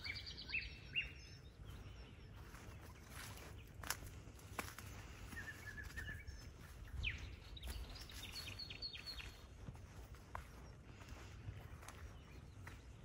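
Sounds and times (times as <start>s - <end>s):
small songbirds calling: 0.0s - 13.0s.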